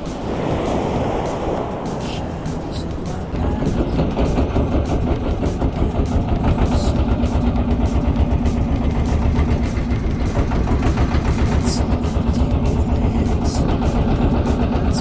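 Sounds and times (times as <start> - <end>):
marine diesel engine running: 0.0 - 15.0.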